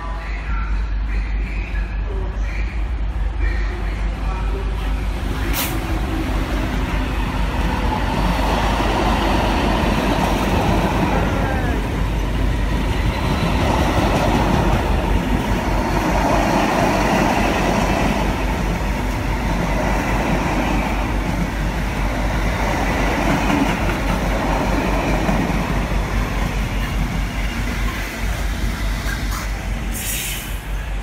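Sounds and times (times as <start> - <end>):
freight train wheels rumbling on rails: 0.0 - 31.0.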